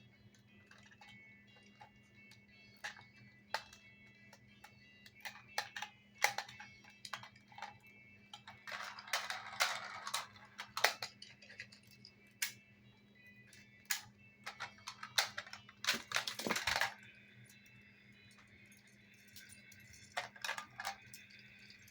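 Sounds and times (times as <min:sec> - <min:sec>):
toy vehicles clicking and knocking: 0:00.3 - 0:12.7, 0:13.4 - 0:21.9
toy rattle: 0:00.6 - 0:12.6, 0:13.6 - 0:21.9.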